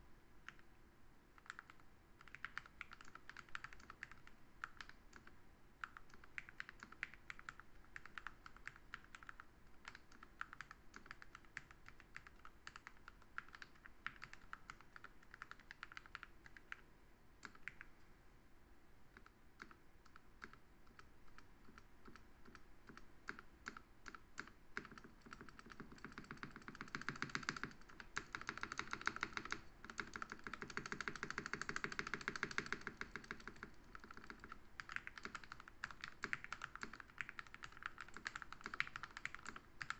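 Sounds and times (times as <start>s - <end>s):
mechanical keyboard typing: 1.4s - 16.8s, 17.4s - 17.9s, 19.1s - 39.9s.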